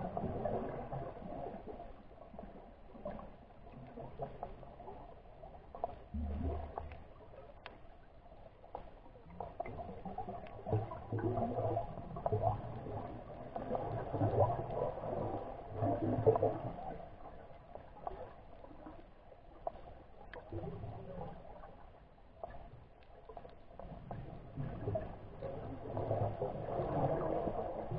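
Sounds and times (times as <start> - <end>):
muffled underwater rumbling: 0.0 - 27.9.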